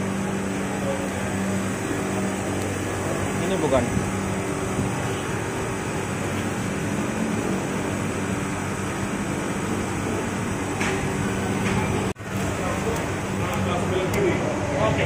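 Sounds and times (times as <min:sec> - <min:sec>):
air conditioner compressor hum: 0:00.0 - 0:15.0
fan noise: 0:00.0 - 0:15.0.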